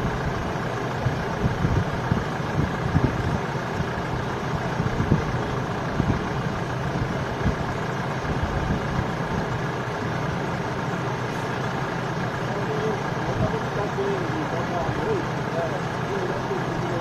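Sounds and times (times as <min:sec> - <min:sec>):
vehicle engines idling: 0:00.0 - 0:17.0.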